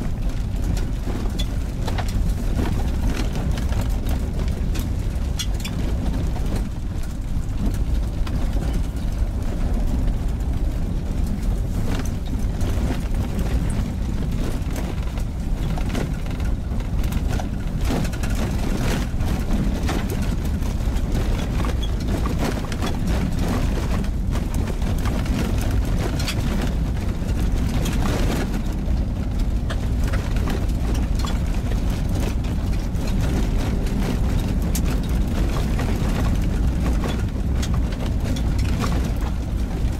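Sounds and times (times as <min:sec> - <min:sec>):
car engine and tyres rumbling: 0:00.0 - 0:39.9
gravel knocks under wheels: 0:00.0 - 0:39.9.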